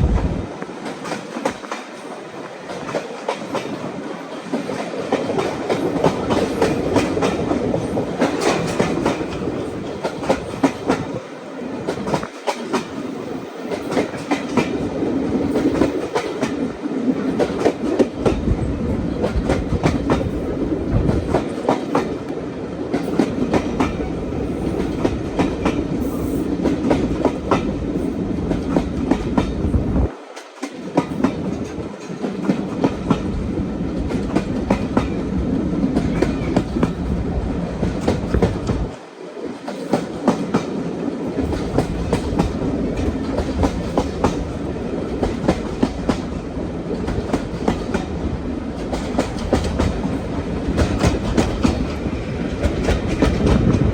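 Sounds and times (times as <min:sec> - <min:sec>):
train carriages rumbling: 0:00.0 - 0:53.9.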